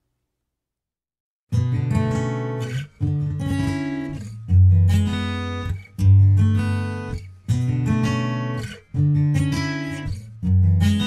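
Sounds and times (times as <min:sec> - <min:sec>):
acoustic guitar strumming chords: 0:01.5 - 0:11.0.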